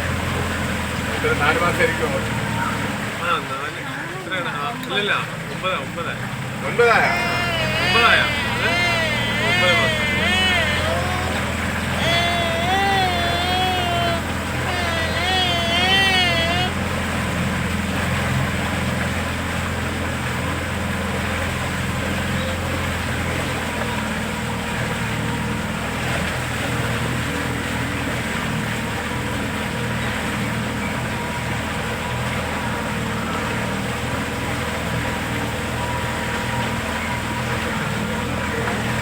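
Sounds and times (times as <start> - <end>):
motorboat engine running: 0.0 - 39.0.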